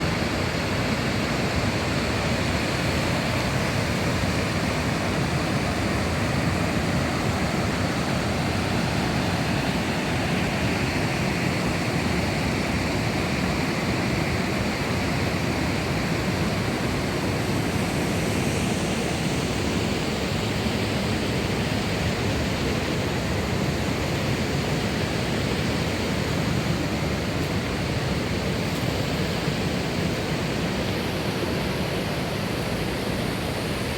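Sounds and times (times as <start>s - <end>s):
waterfall roar: 0.0s - 33.9s.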